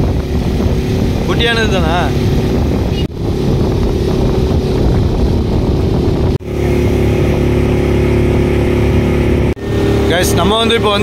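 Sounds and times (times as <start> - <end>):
boat engine running: 0.0 - 11.0
water noise: 0.0 - 11.0
wind: 0.0 - 11.0.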